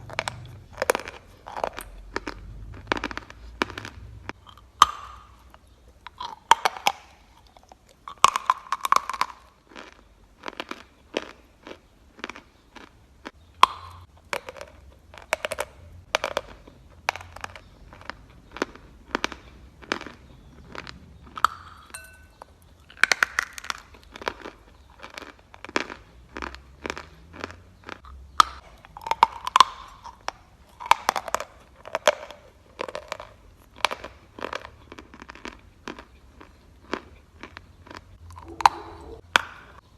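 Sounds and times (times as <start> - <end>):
chalk being chewed: 0.0 - 21.6, 22.3 - 39.8.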